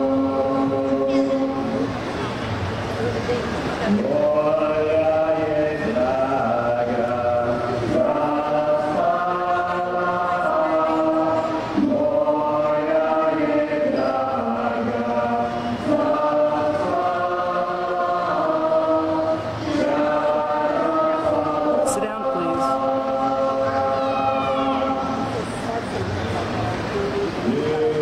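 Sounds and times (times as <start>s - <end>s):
group singing folk song in chorus: 0.0s - 2.0s, 3.8s - 25.5s, 27.4s - 28.0s.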